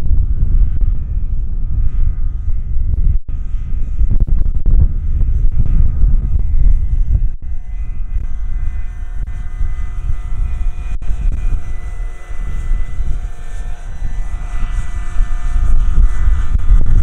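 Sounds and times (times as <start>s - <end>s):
electric motor and rotor whine: 0.0s - 17.0s
heavy low rumble: 0.0s - 17.0s.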